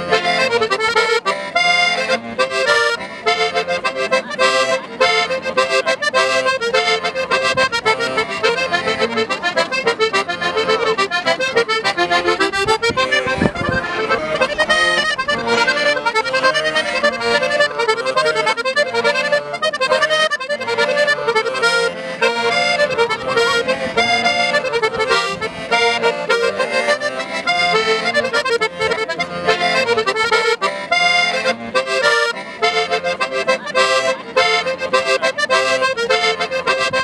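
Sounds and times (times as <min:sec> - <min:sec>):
button accordion dance tune: 0:00.0 - 0:37.0.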